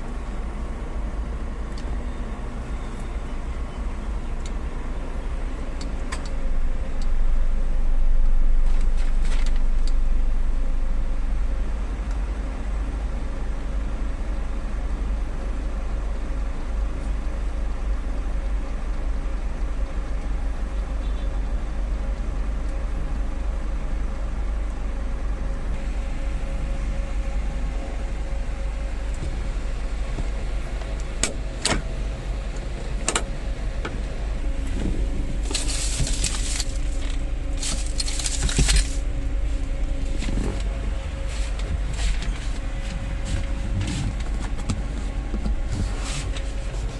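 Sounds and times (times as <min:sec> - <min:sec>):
van engine idling: 0:00.0 - 0:46.9.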